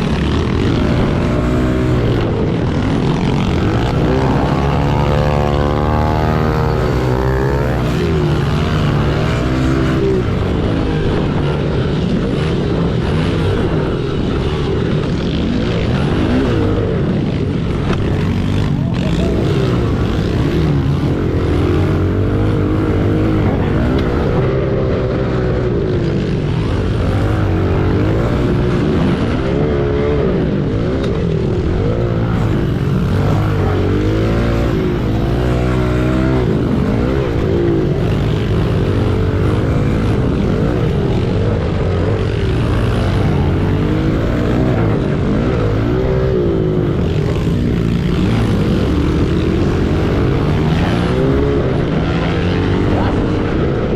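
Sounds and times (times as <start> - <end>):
pit bike engines revving: 0.0 - 53.9
steady rush of noise: 0.0 - 53.9.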